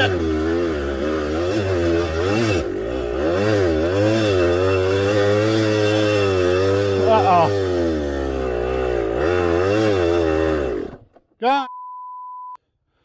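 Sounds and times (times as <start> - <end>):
dirt bike engine revving: 0.0 - 11.2.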